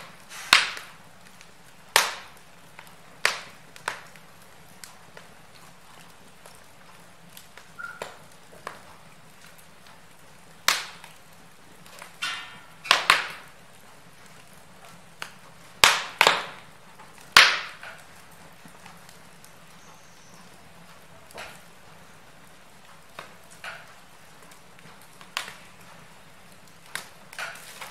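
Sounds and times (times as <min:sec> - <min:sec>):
loud sharp pops of fire: 0:00.0 - 0:20.6, 0:21.2 - 0:21.8, 0:22.4 - 0:27.9
faint steady hiss: 0:00.0 - 0:27.9
wood fire crackling: 0:00.0 - 0:27.9.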